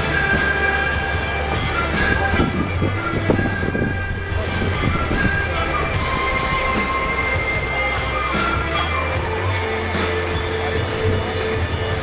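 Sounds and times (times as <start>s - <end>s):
crowd voices: 0.0s - 12.0s
music with long held notes: 0.0s - 12.0s.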